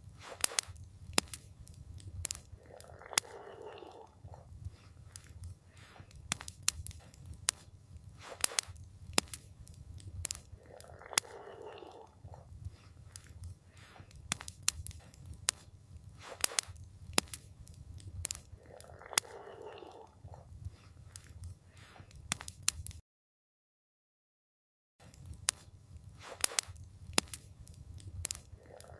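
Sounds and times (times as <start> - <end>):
campfire crackling and popping: 0.0 - 23.0, 25.0 - 28.9.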